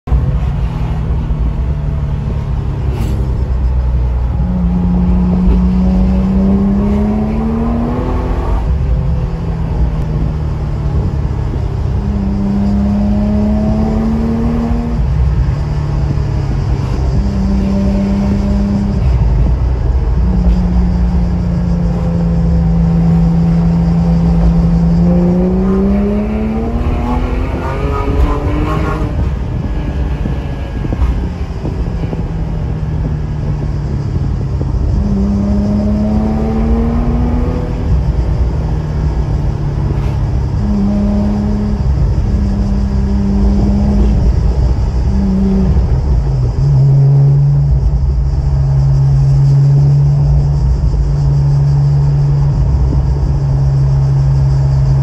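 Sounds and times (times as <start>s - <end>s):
sports car engine revving: 0.1s - 55.0s.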